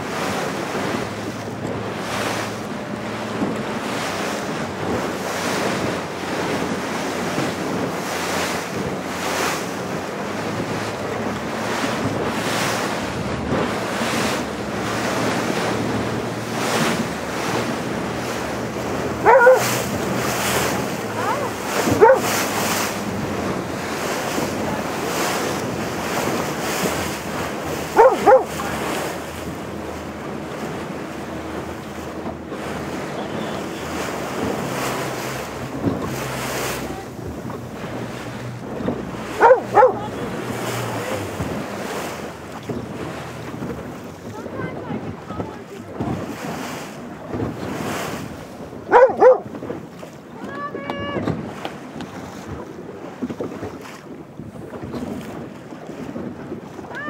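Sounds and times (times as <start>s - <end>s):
sea slapping against inflatable boat: 0.0s - 57.0s.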